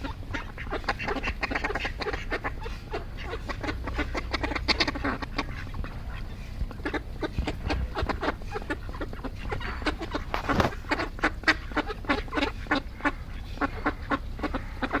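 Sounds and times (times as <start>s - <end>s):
many birds calling: 0.0s - 15.0s.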